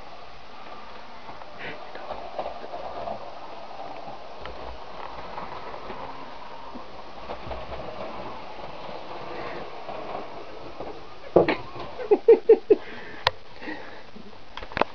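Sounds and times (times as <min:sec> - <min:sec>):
model train whirring: 0:00.0 - 0:12.2.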